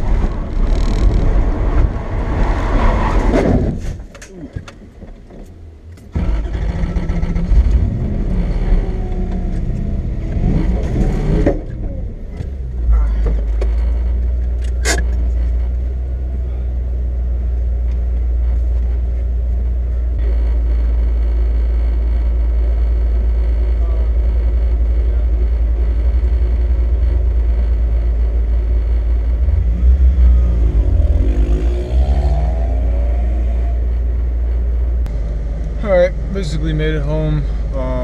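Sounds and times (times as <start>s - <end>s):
car engine droning: 0.0s - 38.0s.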